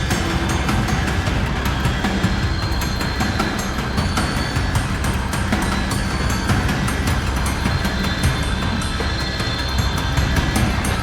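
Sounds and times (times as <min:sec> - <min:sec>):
music with busy beat: 0:00.0 - 0:11.0.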